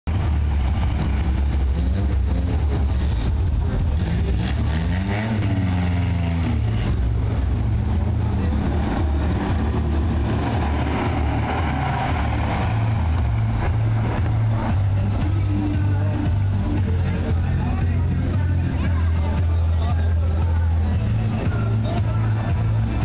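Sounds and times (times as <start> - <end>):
engine revving: 0.1 - 19.4
car engines pulling away: 0.1 - 23.0.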